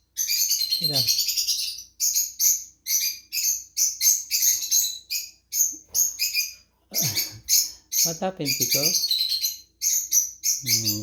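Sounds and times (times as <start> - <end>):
cockatiel chirping: 0.1 - 11.0.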